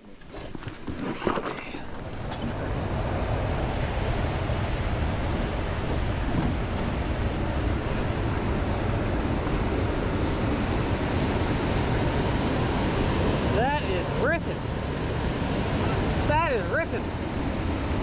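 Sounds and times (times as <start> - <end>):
rushing flood water: 1.6 - 18.0
wind buffeting microphone: 1.8 - 18.0.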